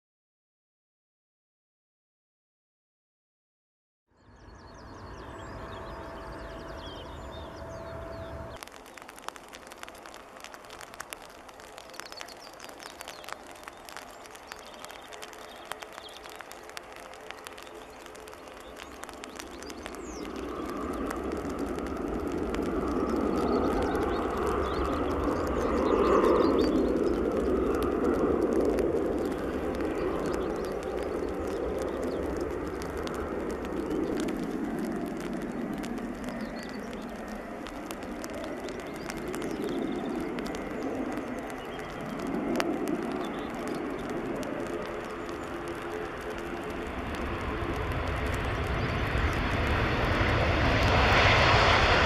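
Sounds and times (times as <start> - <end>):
jet engines rushing with fan whine: 4.3 - 52.0.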